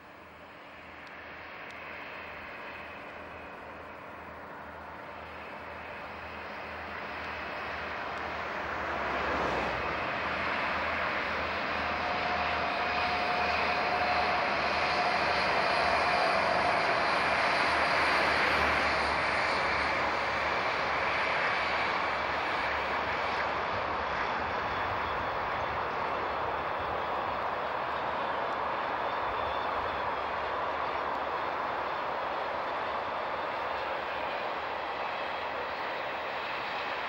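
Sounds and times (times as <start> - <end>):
diesel locomotives hauling train: 0.0 - 37.0.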